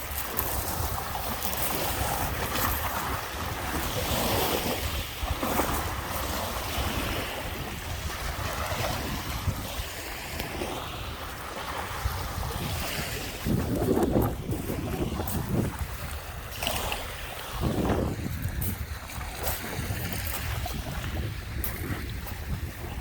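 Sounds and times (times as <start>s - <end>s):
waves washing onto beach: 0.0s - 23.0s
wind buffeting microphone: 0.0s - 23.0s.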